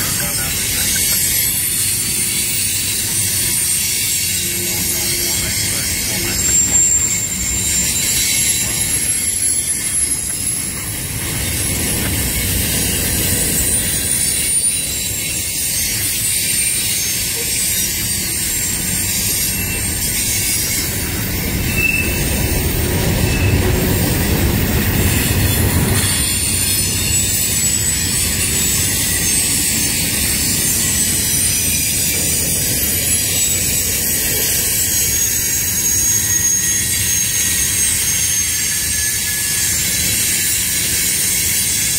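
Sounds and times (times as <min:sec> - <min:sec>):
freight train rumble: 0:00.0 - 0:41.9
train wheels squealing: 0:00.0 - 0:41.9.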